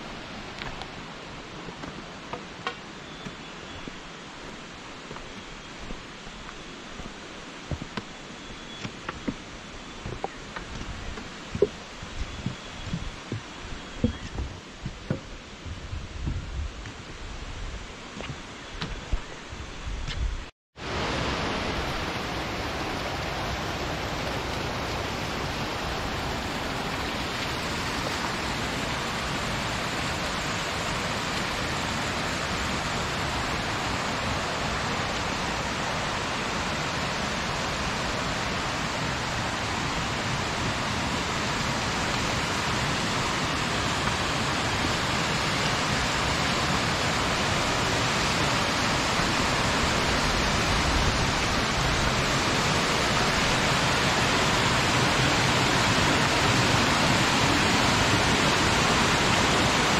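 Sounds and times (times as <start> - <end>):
rushing water of stream: 0.0 - 59.9.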